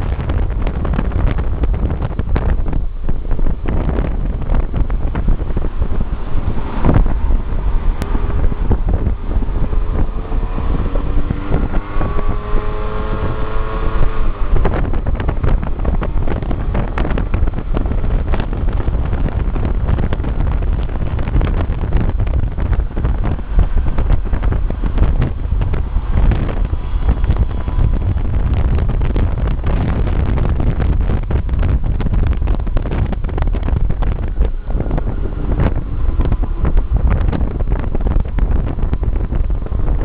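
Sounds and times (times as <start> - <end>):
wind buffeting microphone: 0.0 - 40.0
scooter engine: 4.6 - 40.0.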